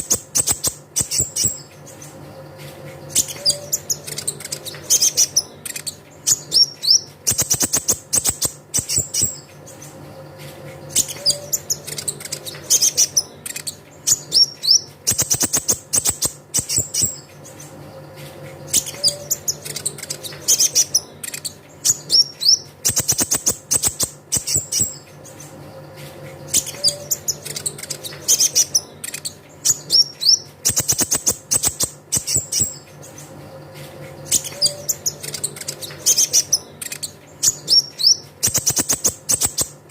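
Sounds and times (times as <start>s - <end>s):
bird chirping and trilling: 0.0s - 33.6s, 34.2s - 39.9s.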